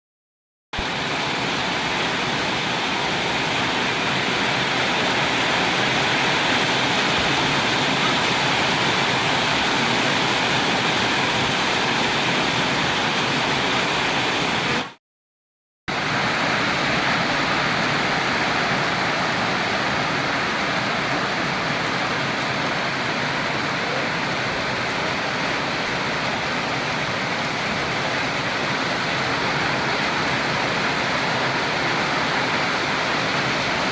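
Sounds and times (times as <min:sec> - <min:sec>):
rain falling: 0:00.8 - 0:15.0, 0:15.9 - 0:33.9.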